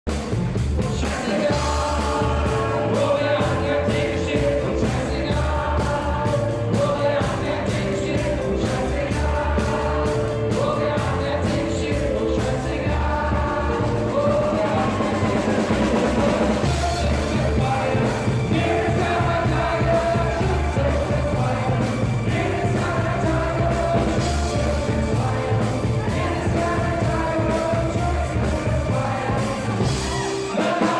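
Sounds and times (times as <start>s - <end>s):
drum beat: 0.1s - 30.9s
live rock band playing: 0.1s - 30.9s.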